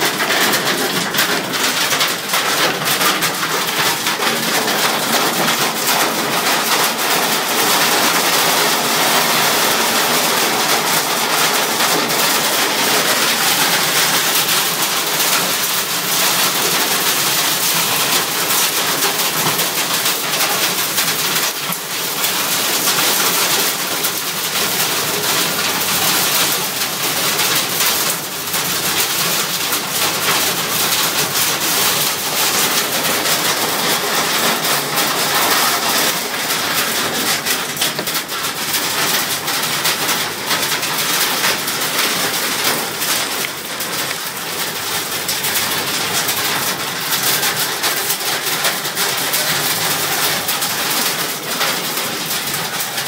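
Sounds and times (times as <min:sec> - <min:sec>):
hail and rain clattering: 0:00.0 - 0:53.0.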